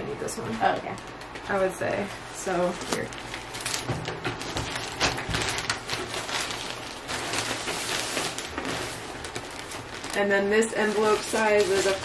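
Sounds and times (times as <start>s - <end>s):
plastic mailers crinkling: 0.6s - 12.0s.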